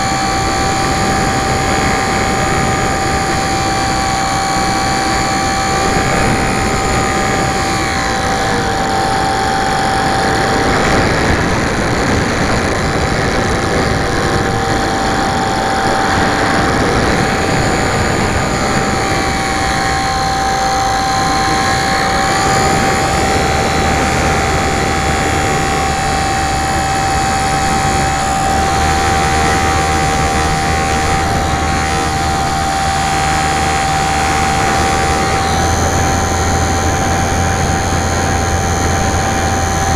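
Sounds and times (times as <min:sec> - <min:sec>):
constant high tone: 0:00.0 - 0:39.9
model plane motor and propeller: 0:00.0 - 0:39.9
wind rushing over microphone: 0:00.0 - 0:39.9.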